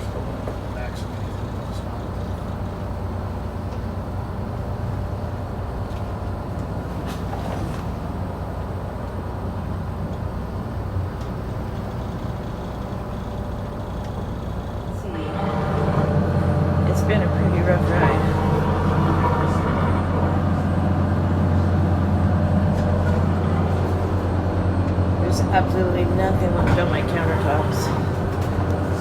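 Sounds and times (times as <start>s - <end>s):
boat diesel engine droning: 0.0s - 29.0s.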